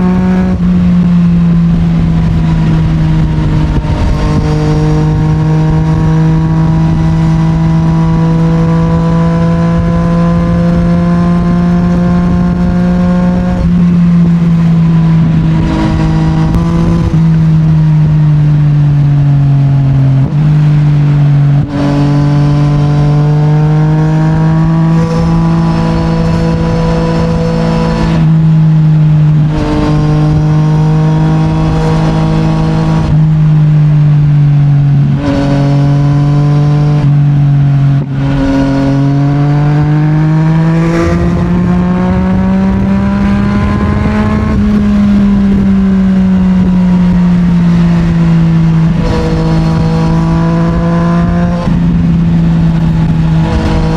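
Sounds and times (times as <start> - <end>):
motorcycle engine cruising: 0.0 - 53.9.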